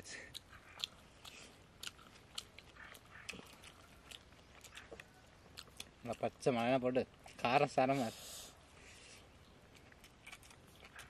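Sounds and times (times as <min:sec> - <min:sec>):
chewing and biting food: 0:00.2 - 0:07.6, 0:09.0 - 0:11.0.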